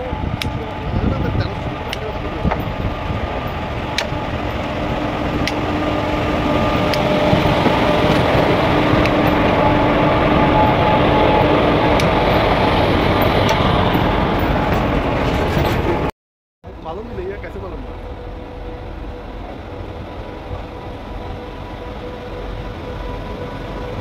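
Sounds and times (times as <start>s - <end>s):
locomotive hum: 0.0s - 16.1s, 16.7s - 24.0s
train wheels rumbling on rail: 0.0s - 16.1s, 16.7s - 24.0s.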